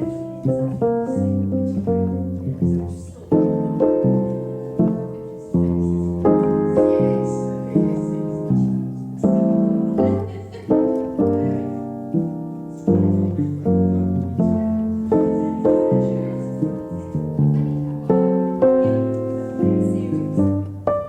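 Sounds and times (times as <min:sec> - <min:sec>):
held bass line: 0:00.0 - 0:21.0
piano chords: 0:00.0 - 0:21.0.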